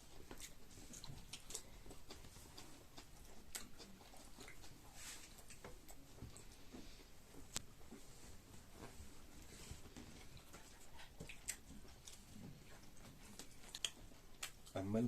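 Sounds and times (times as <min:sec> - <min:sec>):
faint chewing: 0:00.0 - 0:15.0
small clicks from eating: 0:00.1 - 0:07.7, 0:09.9 - 0:14.8.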